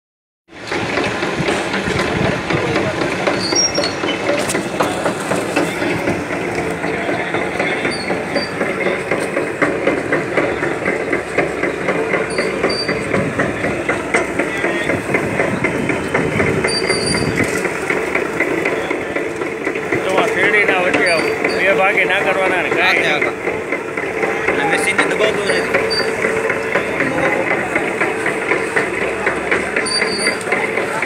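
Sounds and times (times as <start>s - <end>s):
sugarcane crusher clattering: 0.6s - 31.0s.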